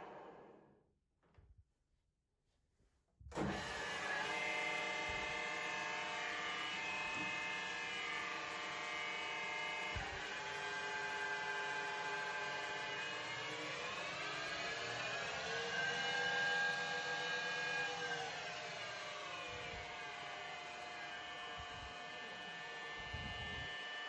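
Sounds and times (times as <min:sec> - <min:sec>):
lathe running with humming tones: 0:03.5 - 0:24.0.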